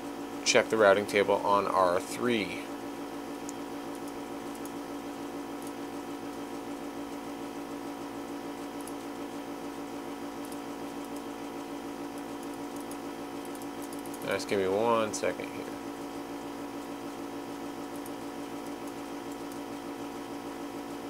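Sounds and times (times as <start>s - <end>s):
electrical fan hum: 0.0s - 21.0s.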